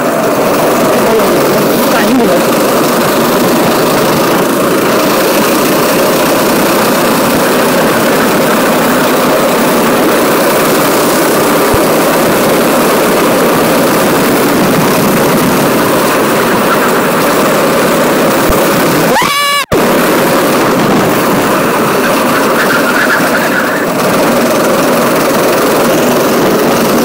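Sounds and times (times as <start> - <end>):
go-kart engine running hard: 0.0 - 27.0.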